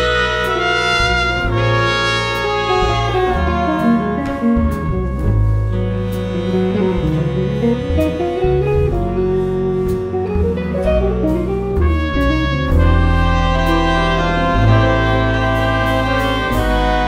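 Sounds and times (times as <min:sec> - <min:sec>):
guitar melody: 0:00.0 - 0:17.0
horns: 0:00.0 - 0:17.0
jazz ensemble playing: 0:00.0 - 0:17.0.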